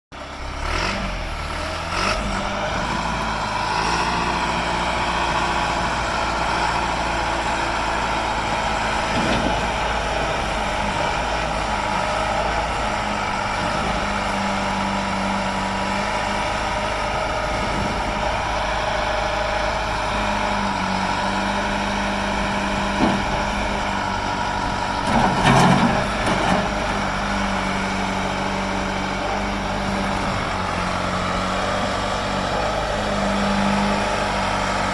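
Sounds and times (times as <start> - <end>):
diesel engine idling: 0.2 - 34.9
engine knocks: 0.7 - 34.9
steady whine: 2.2 - 34.9.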